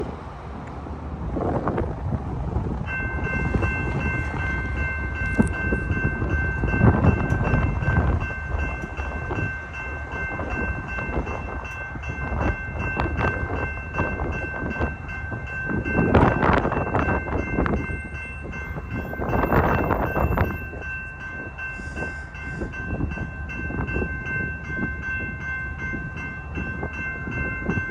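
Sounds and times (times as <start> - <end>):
freight train rumble: 0.0 - 27.9
wind buffeting microphone: 0.0 - 27.9
crossing warning bell ringing: 2.7 - 27.9.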